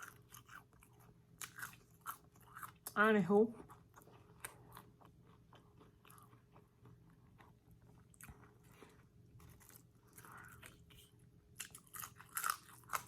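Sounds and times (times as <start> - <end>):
person chewing food: 0.0 - 2.9, 3.6 - 13.0
low steady hum: 0.0 - 13.0.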